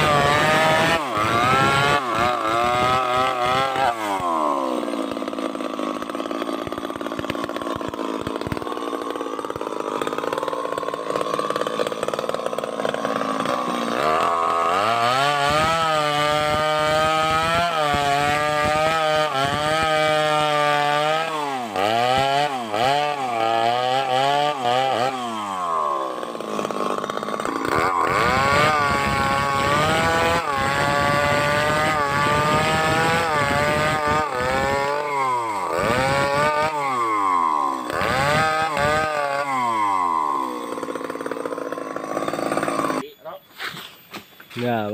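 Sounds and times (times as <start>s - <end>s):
chainsaw running: 0.0s - 43.1s.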